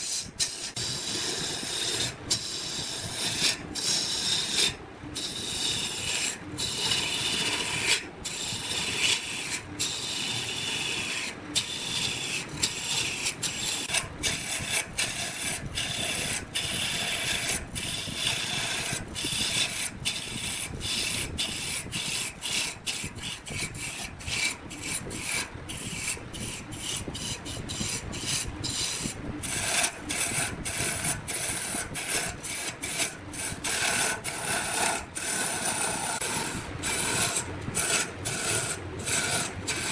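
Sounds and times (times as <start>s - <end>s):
wood lathe rasping scrape: 0.0s - 39.9s.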